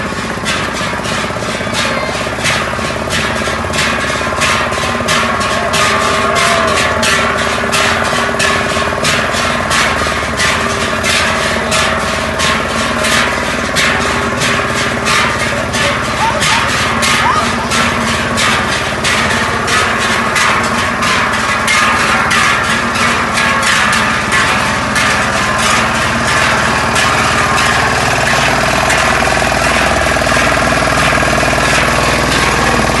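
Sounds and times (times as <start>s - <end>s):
large cowbells clanging: 0.0s - 33.0s
small vehicle engine running: 0.0s - 33.0s.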